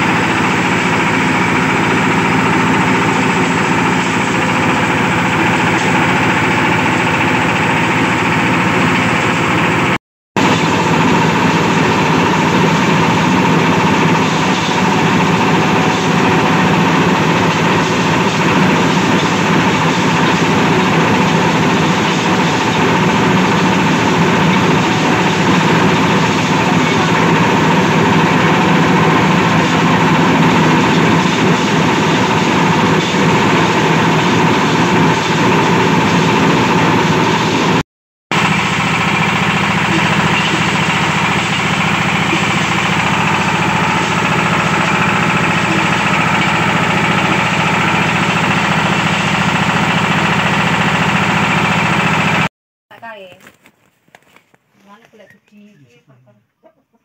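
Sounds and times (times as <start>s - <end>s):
diesel engine machinery drone: 0.0s - 52.5s.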